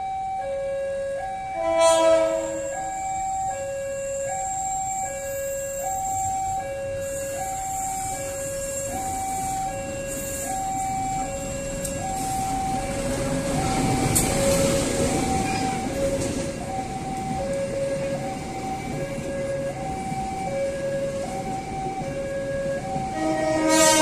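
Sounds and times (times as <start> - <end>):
two-tone warning alarm: 0.0 - 24.0
train passing rumble: 4.4 - 24.0.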